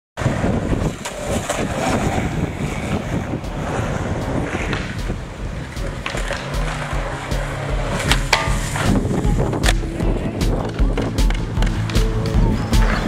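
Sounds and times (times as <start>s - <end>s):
wind buffeting microphone: 0.2s - 11.6s
skateboard wheels rolling on concrete: 0.2s - 13.0s.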